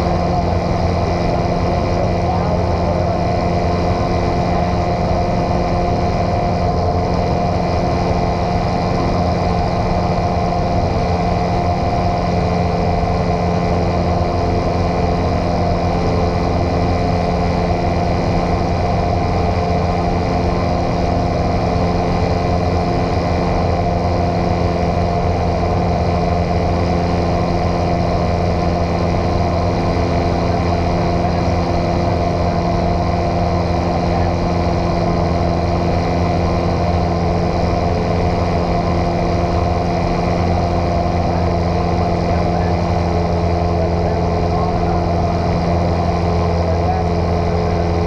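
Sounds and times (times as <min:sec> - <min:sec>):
light airplane engine droning: 0:00.0 - 0:48.0.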